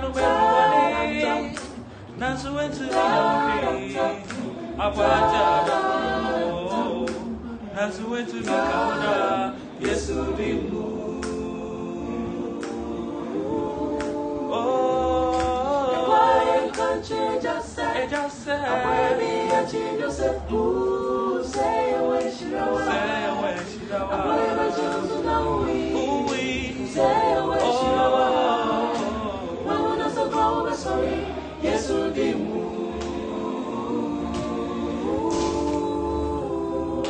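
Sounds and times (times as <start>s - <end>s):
a cappella group singing in harmony: 0.0s - 37.0s.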